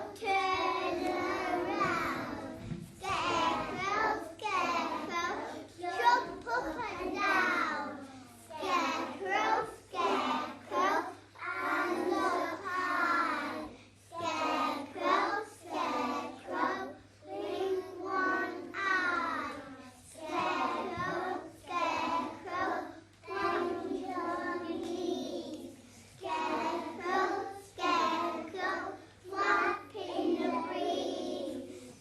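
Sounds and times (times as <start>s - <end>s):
young children singing: 0.0s - 32.0s.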